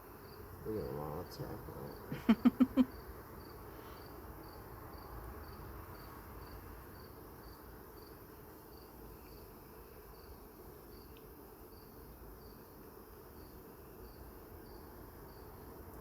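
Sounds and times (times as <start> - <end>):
cricket chirping: 0.0 - 16.0
low background noise: 0.0 - 16.0.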